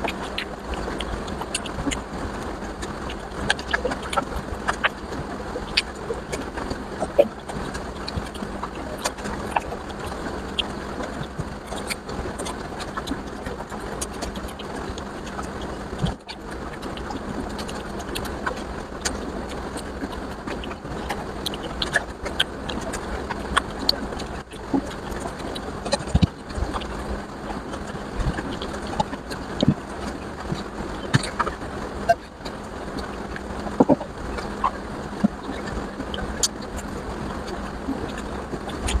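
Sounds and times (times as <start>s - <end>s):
mouth clicks and smacks: 0.0s - 39.0s
wet chewing: 0.0s - 39.0s.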